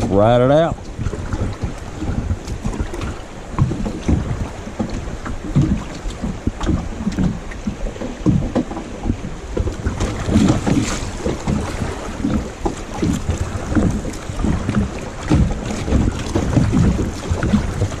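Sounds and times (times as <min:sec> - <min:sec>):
water splashing against hull: 0:00.0 - 0:18.0
wind buffeting microphone: 0:00.0 - 0:18.0.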